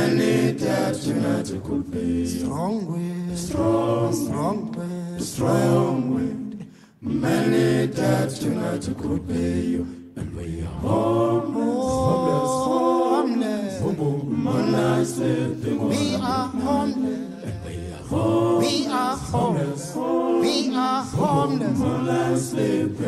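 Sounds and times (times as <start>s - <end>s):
voices singing in harmony: 0.0s - 23.0s.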